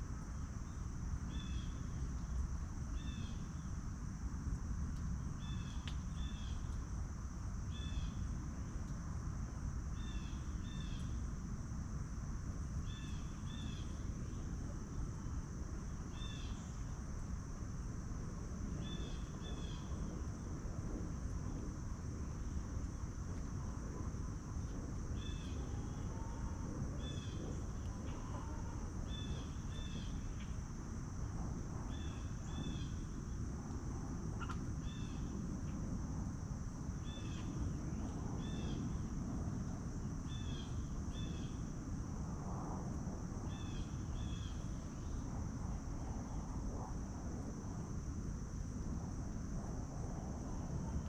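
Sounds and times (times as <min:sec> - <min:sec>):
insects droning: 0:00.0 - 0:51.0
low rumble of outdoor noise: 0:00.0 - 0:51.0.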